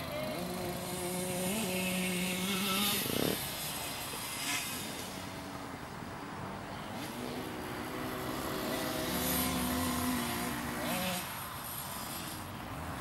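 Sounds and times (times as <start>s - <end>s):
small motorbike engine revving: 0.0s - 13.0s.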